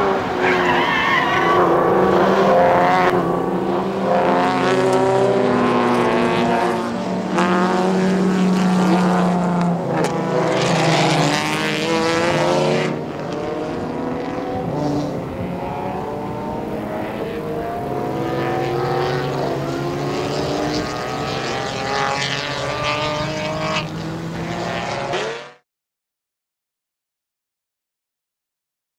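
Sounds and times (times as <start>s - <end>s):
race car engines revving: 0.0s - 25.6s.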